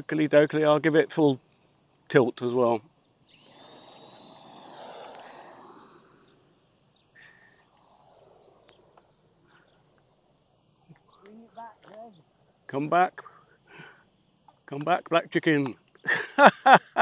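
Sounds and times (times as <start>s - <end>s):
electric fan high whine: 0.0s - 17.0s.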